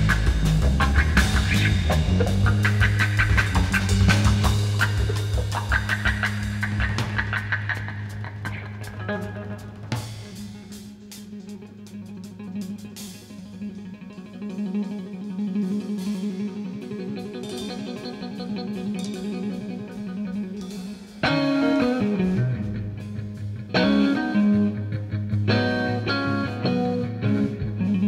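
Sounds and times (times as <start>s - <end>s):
electric guitar: 0.0s - 28.0s.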